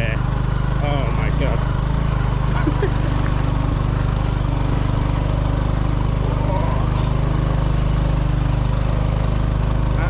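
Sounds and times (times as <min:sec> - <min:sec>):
small scooter engine running: 0:00.0 - 0:10.0.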